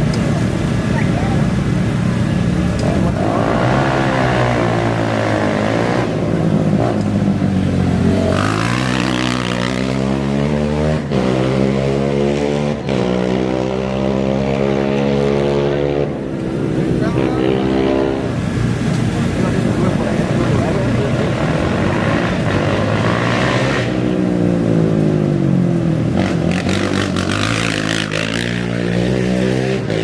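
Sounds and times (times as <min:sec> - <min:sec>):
engine revving and accelerating: 0:02.5 - 0:30.0.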